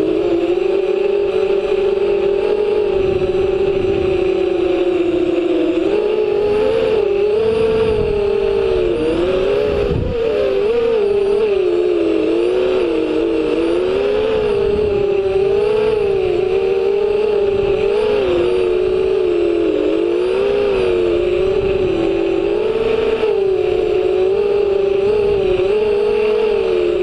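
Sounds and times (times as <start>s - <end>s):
drone motors whining: 0.0s - 27.0s
low wind rumble: 0.0s - 27.0s.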